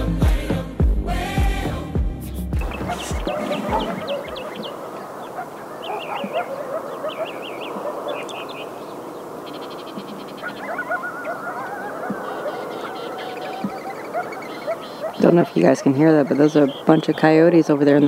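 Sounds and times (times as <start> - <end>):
coyotes yipping and howling: 2.6 - 18.0.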